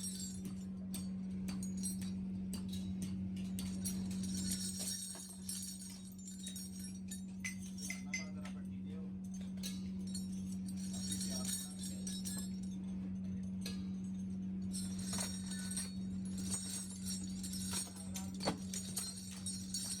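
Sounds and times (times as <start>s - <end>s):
small metal parts clinking: 0.0s - 8.6s, 9.2s - 20.0s.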